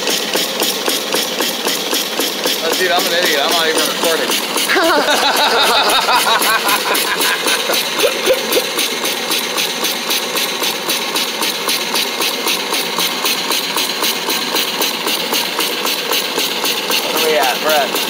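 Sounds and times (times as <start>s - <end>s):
steam engine exhaust chuffing: 0.0s - 18.0s.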